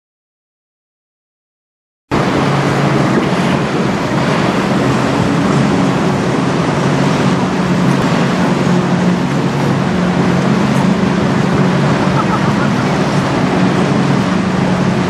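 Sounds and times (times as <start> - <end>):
choppy river water: 2.1 - 15.0
low engine hum: 2.1 - 15.0.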